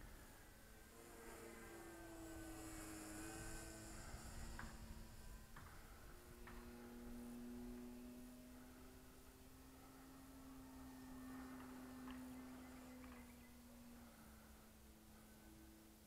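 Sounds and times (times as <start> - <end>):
distant model airplane motor: 0.0 - 16.0.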